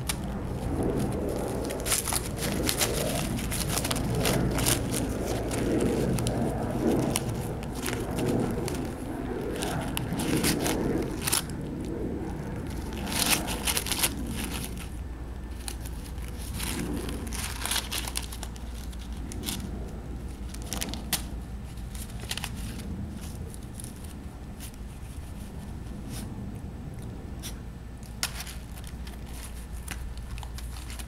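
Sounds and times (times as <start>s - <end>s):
paper ripping and crinkling: 0.0s - 25.5s, 27.4s - 31.0s.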